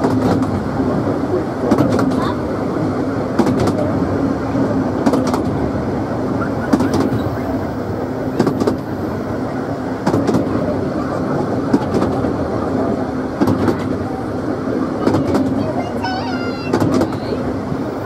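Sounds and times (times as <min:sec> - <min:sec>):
train coach rumbling: 0:00.0 - 0:18.0
wheels clicking over rail joints: 0:00.0 - 0:18.0.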